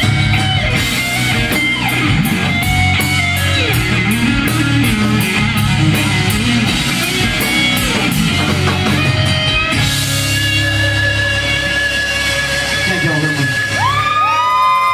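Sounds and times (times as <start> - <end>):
drums: 0.0 - 14.9
live rock band playing: 0.0 - 14.9.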